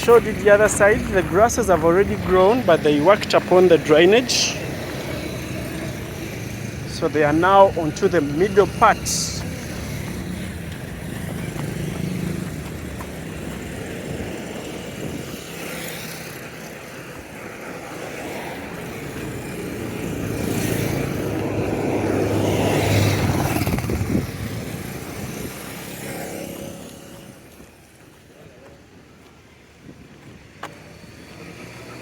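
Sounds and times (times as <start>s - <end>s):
vehicle engine hum passing: 0.0s - 32.0s.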